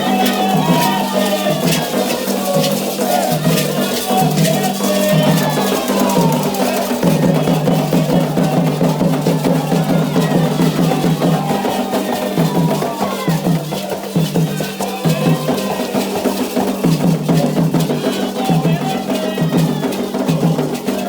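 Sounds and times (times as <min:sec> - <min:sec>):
hand drums beating: 0:00.0 - 0:21.0
struck percussion: 0:00.0 - 0:21.0
voices singing: 0:00.0 - 0:21.0.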